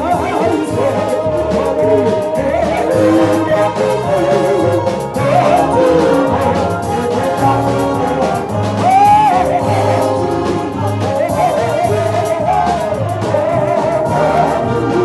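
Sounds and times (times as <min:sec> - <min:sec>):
drum kit beat: 0:00.0 - 0:15.0
person singing: 0:00.0 - 0:15.0
saxophones and trumpets: 0:00.0 - 0:15.0.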